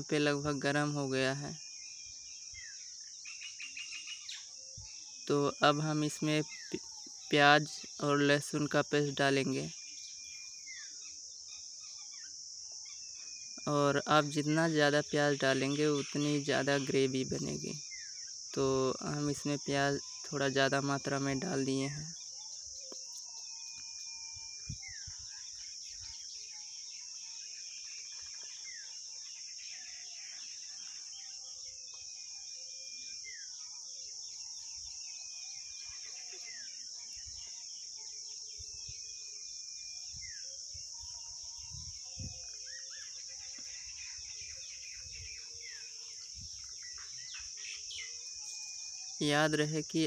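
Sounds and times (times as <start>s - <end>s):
insects droning: 0.0s - 50.0s.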